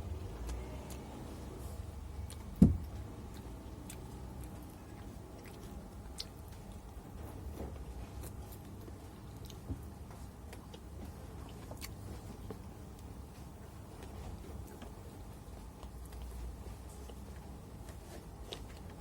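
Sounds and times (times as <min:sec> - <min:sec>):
steady low hum: 0:00.0 - 0:19.0
chewing and biting: 0:02.1 - 0:19.0.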